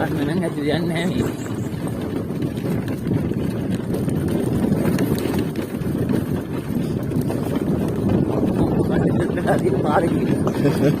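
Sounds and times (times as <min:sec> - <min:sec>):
motorcycle running: 0:00.0 - 0:11.0
wind buffeting microphone: 0:00.0 - 0:11.0.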